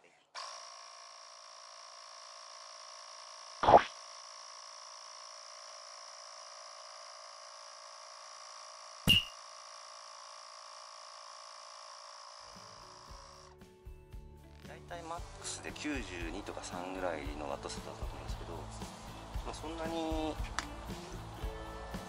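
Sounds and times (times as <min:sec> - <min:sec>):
air compressor humming: 0:00.4 - 0:13.5, 0:16.0 - 0:22.0.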